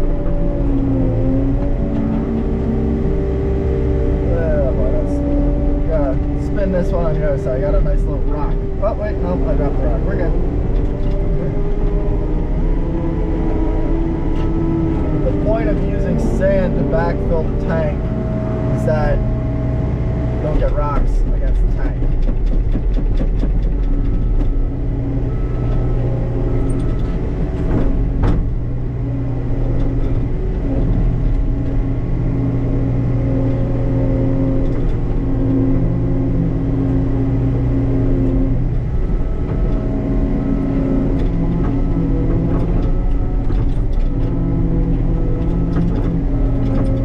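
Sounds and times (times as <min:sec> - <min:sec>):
earthmover diesel engine running: 0:00.0 - 0:47.0.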